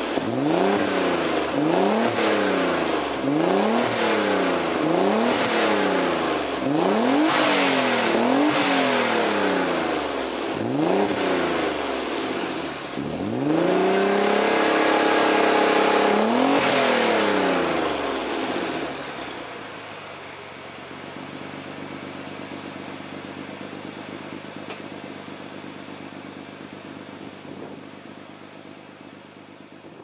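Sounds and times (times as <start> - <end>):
car engine revving and idling: 0.0 - 30.0.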